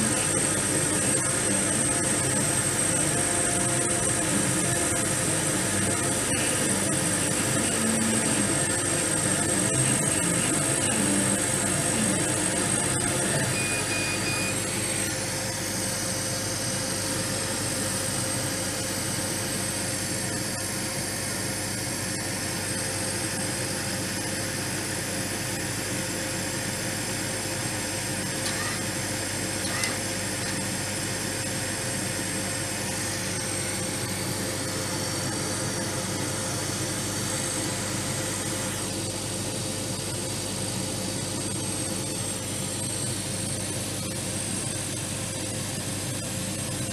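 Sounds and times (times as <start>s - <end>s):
laser cutter humming: 0.0s - 46.9s.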